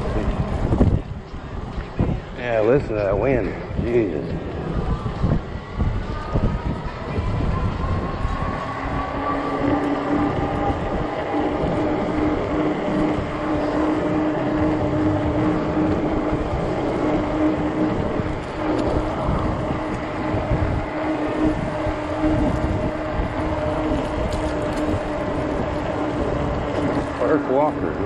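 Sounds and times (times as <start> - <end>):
electric bike motor hum: 0.0 - 28.0
wind buffeting microphone: 0.0 - 28.0.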